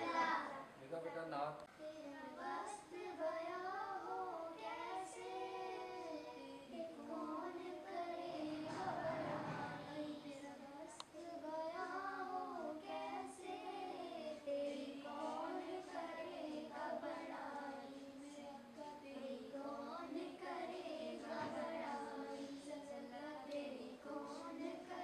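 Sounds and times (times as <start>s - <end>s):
boy singing a hymn: 0.0s - 25.0s.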